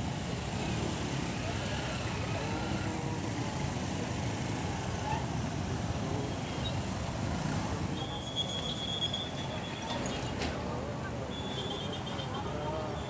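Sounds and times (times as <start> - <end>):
faint voices: 0.0 - 13.0
motorcycle engines running: 0.0 - 13.0
road noise: 0.0 - 13.0.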